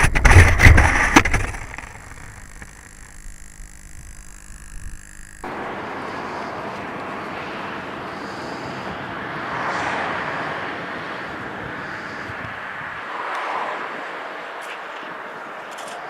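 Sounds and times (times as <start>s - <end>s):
model airplane rushing air: 0.0s - 15.4s.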